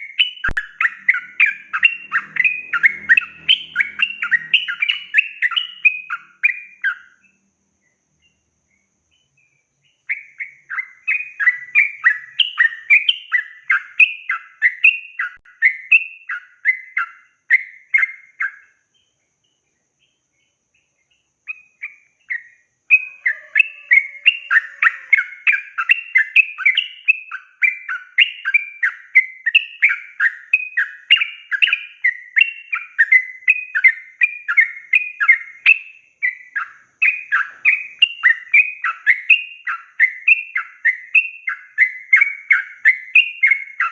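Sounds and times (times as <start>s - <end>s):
bird singing chattering notes: 0.0s - 7.3s, 9.2s - 20.2s, 20.8s - 43.9s.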